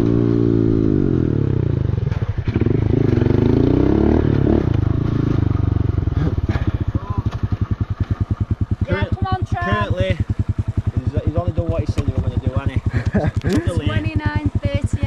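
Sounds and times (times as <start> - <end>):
motorbike engine revving down: 0.0 - 15.0.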